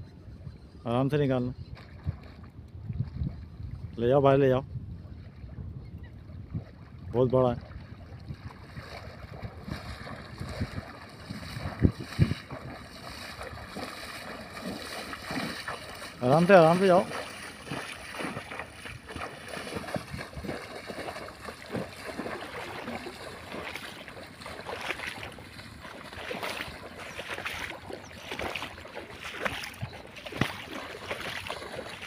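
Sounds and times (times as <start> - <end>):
wind on microphone: 0.0 - 32.0
water splashing and sloshing: 1.7 - 4.0, 5.0 - 32.0.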